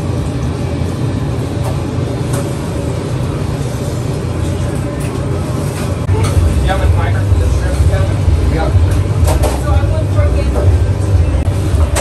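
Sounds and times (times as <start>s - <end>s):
low mechanical rumble: 0.0s - 12.0s
noisy background: 0.0s - 12.0s.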